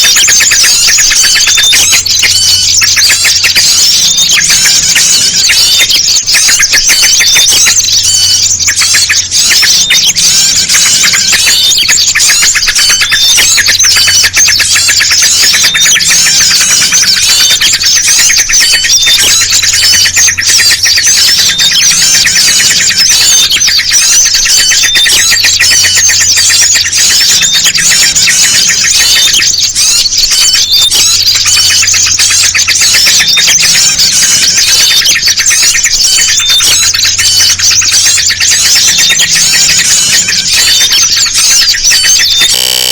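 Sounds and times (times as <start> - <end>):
small birds chirping and chattering: 0.0 - 42.9.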